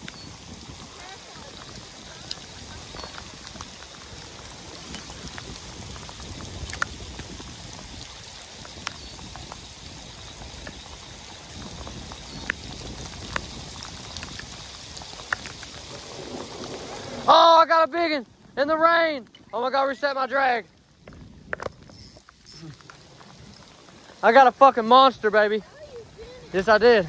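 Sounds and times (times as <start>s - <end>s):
heavy rain pouring: 0.0s - 27.0s
raindrops ticking close by: 0.0s - 27.0s.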